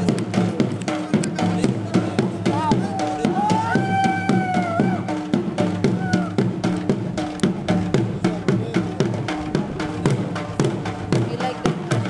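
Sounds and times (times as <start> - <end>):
drums beating dance rhythm: 0.0 - 12.0.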